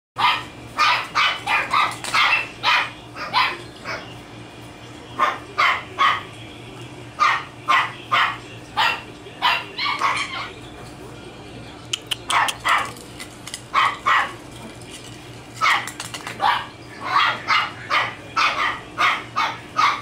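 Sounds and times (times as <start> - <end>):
puppies yapping: 0.2 - 4.3, 5.2 - 6.4, 7.2 - 10.8, 12.0 - 20.0.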